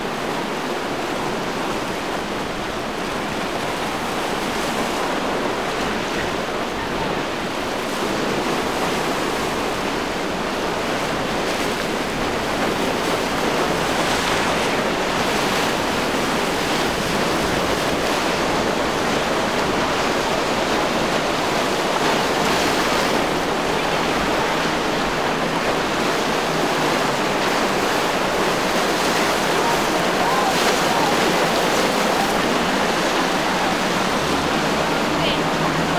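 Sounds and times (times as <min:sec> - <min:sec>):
surf and breaking waves: 0:00.0 - 0:35.9.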